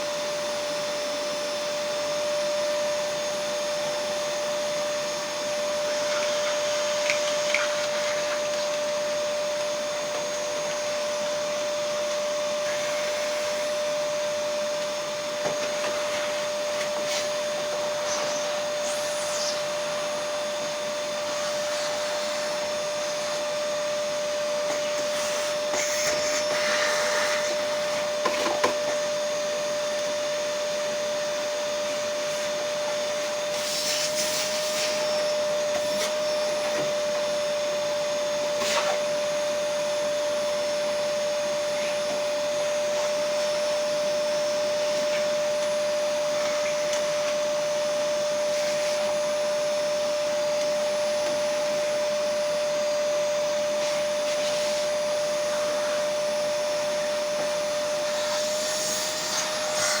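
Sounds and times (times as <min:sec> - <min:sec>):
electric motor whining: 0:05.1 - 0:52.4, 0:53.3 - 1:00.0.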